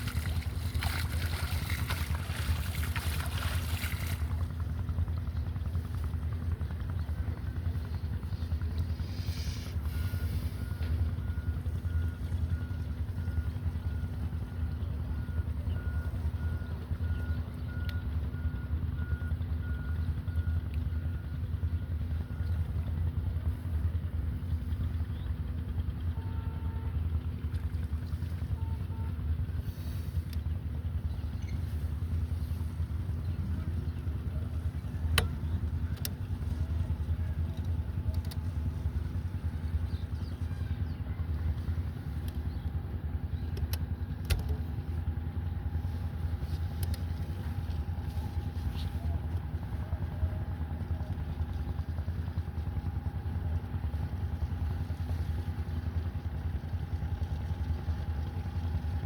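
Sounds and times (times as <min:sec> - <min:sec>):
engine rumbling: 0:00.0 - 0:59.0.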